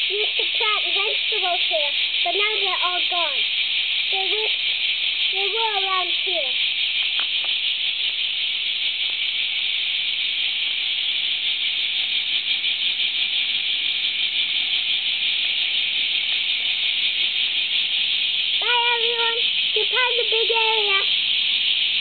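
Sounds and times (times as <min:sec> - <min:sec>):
cicadas droning: 0:00.0 - 0:22.0.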